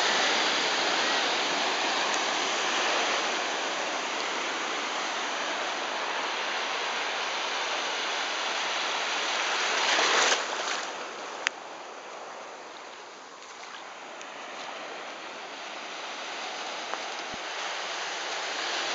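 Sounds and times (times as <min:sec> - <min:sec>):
ocean waves on beach: 0:00.0 - 0:18.9.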